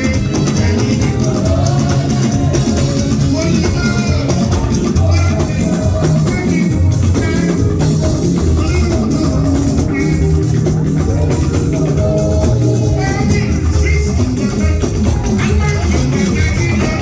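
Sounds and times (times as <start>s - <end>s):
band music with drums bass guitar: 0.0s - 17.0s.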